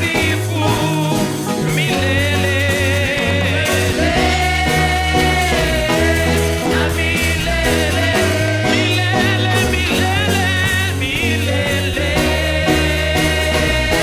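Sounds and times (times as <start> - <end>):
upbeat gospel praise music: 0.0 - 14.0.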